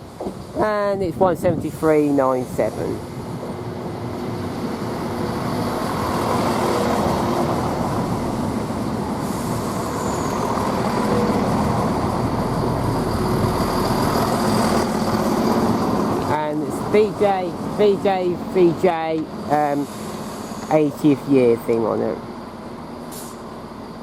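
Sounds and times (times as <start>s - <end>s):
diesel train engines droning: 0.0s - 24.0s.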